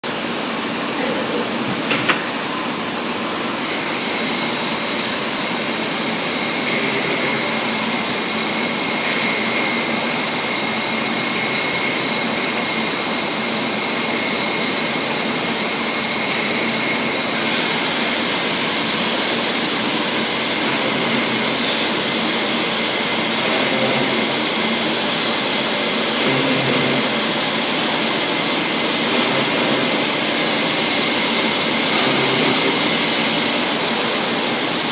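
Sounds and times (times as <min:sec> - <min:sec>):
machine rushing with high whine: 0:00.1 - 0:34.9.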